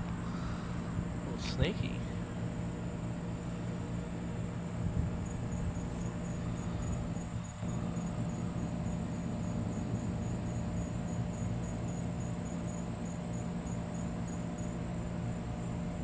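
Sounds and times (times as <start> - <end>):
insect chirping: 0.0 - 16.0
steady low hum: 0.0 - 16.0.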